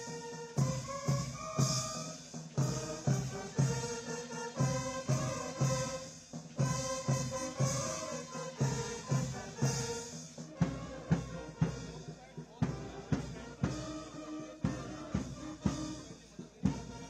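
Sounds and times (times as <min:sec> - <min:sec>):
background music with drum beat: 0:00.0 - 0:17.0.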